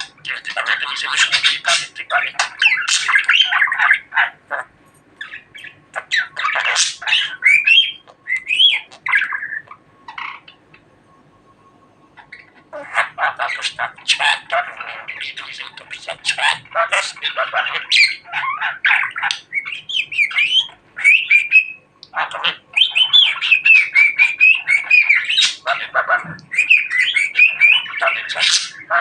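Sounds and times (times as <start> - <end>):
budgerigar chattering and warbling: 0.0 - 10.8, 12.2 - 29.0.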